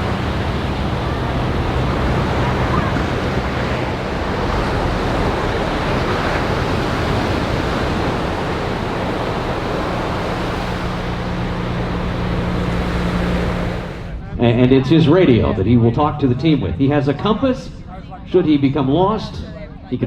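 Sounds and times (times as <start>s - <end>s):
wind on microphone: 0.0s - 17.0s
surf roaring: 0.0s - 18.3s
low steady hum: 0.0s - 20.0s.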